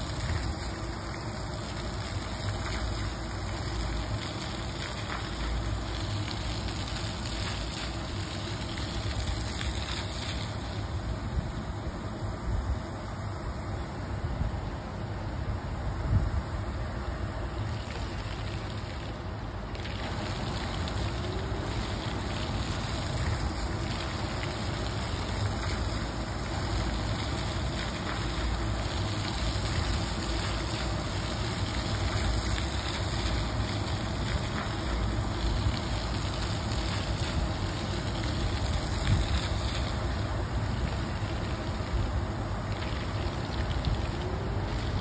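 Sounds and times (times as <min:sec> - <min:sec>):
fountain water splashing on paving: 0:00.0 - 0:45.0.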